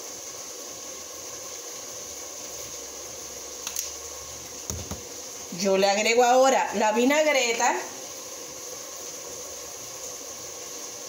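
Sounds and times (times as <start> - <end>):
kitchen hiss: 0.0 - 11.0.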